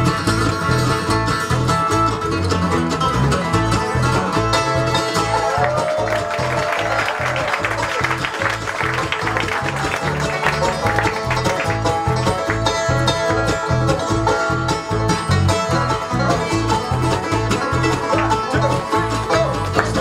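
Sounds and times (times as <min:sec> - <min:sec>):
banjo picking: 0:00.0 - 0:20.0
bass line: 0:00.0 - 0:20.0
bluegrass band playing: 0:00.0 - 0:20.0.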